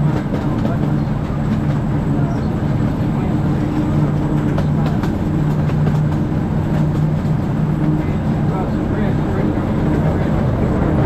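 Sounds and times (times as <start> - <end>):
train engine hum: 0.0 - 11.0.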